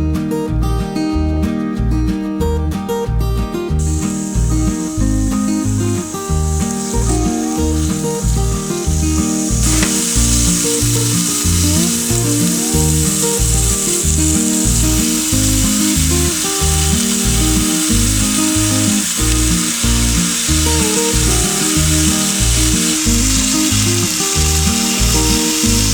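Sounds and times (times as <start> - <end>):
background music: 0.0 - 25.9
food sizzling in frying pan: 3.8 - 25.9.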